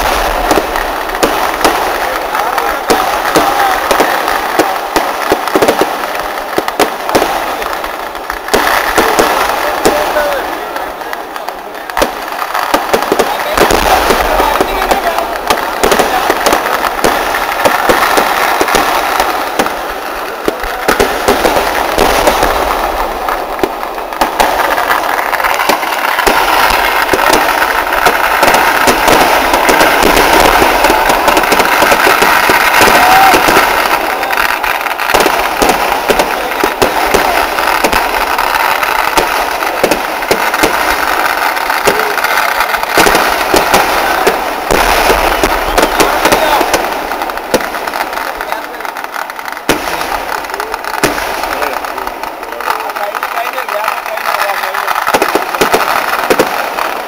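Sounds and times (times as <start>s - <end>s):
fireworks loud bangs: 0.0s - 57.0s.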